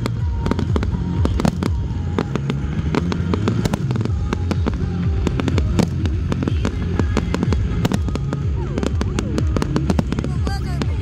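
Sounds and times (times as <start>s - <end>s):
continuous low rumble: 0.0s - 11.0s
fireworks bangs and crackles: 0.0s - 11.0s.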